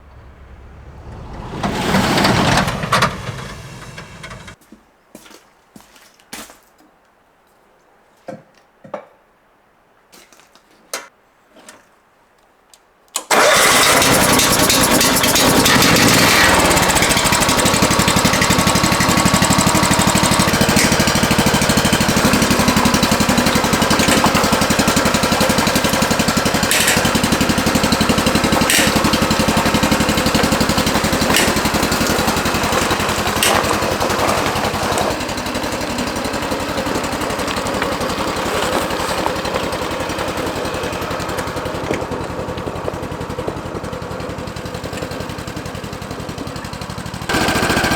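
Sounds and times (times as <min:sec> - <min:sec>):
engine running with fast pulse: 0:00.0 - 0:04.6, 0:13.3 - 0:47.9.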